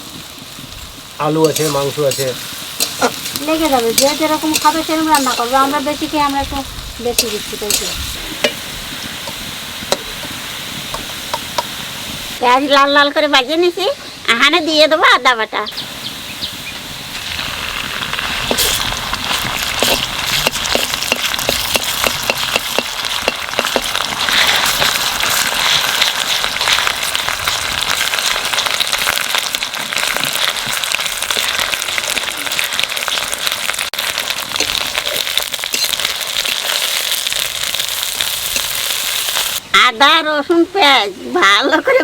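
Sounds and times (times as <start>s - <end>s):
onions sizzling in hot oil: 0.0s - 41.1s.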